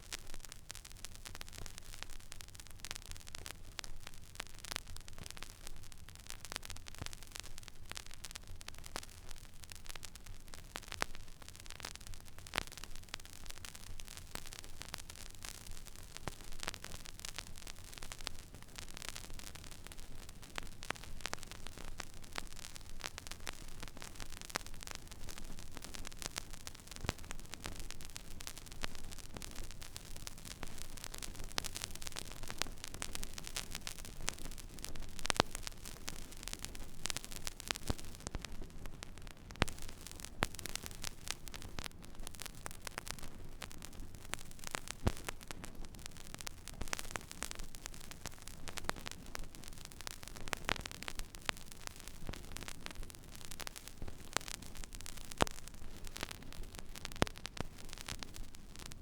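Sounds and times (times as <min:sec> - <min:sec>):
record pops: 0:00.0 - 0:59.0
vinyl surface hiss and crackle: 0:00.0 - 0:59.0.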